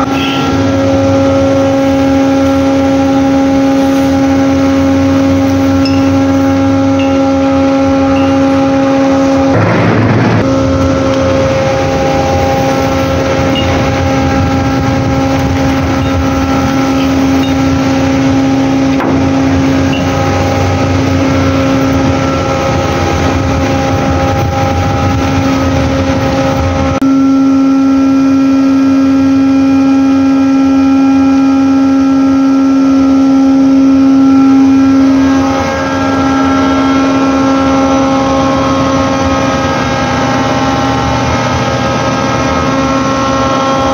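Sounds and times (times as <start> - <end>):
deck machinery droning: 0.0 - 43.9.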